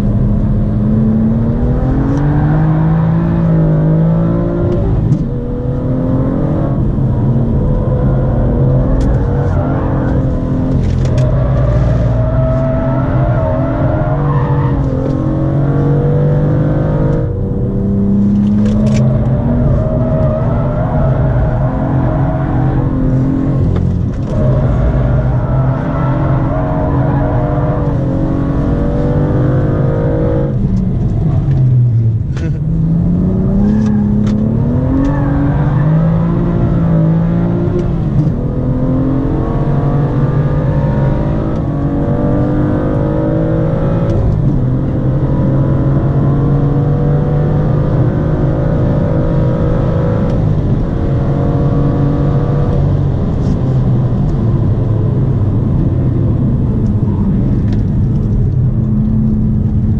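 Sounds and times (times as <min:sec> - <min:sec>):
car engine under hard acceleration: 0:00.0 - 0:59.9.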